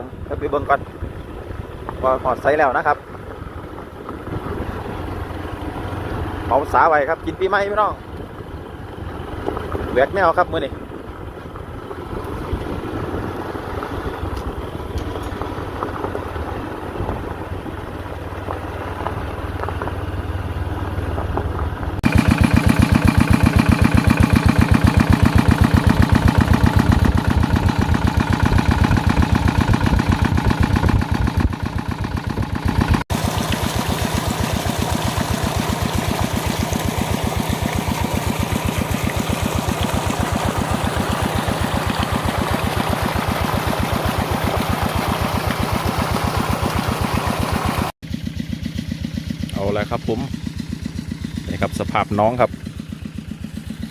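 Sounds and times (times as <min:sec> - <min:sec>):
small engine running a pump: 0:00.0 - 0:53.9.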